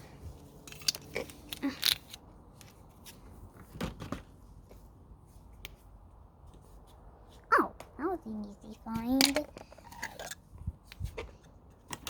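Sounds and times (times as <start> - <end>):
rustling of handled objects: 0.0 - 12.0.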